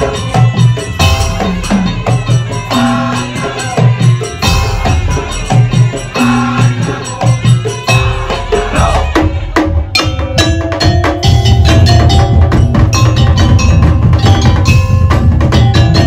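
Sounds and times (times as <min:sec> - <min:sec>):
held melody line: 0:00.0 - 0:16.0
percussion ensemble playing: 0:00.0 - 0:16.0.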